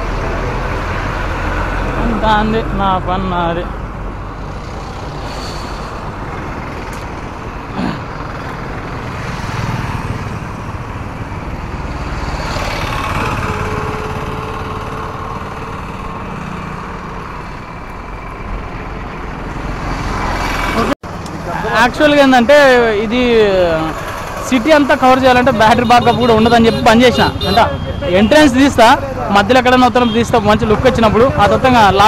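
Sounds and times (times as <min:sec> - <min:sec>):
highway traffic rushing: 0:00.0 - 0:32.0.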